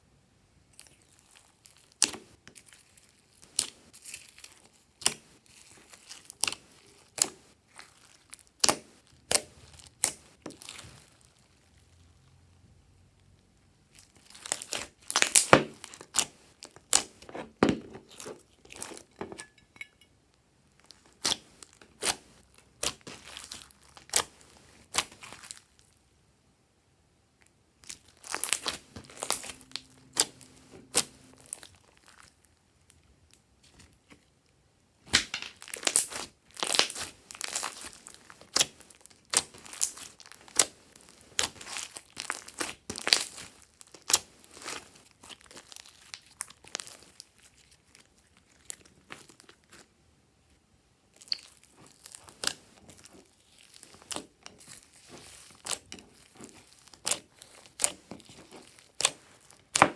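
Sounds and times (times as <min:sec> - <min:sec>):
slime squished by hand: 0:00.8 - 0:11.6, 0:13.9 - 0:19.2, 0:20.8 - 0:25.9, 0:27.8 - 0:32.4, 0:35.1 - 0:49.9, 0:51.1 - 0:59.9.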